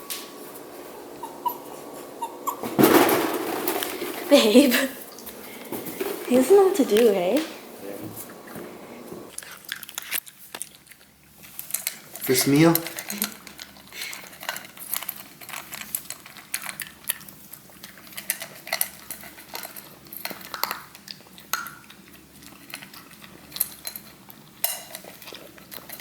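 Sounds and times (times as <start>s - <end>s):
dog eating dry food from bowl: 2.5s - 7.4s, 9.3s - 26.0s.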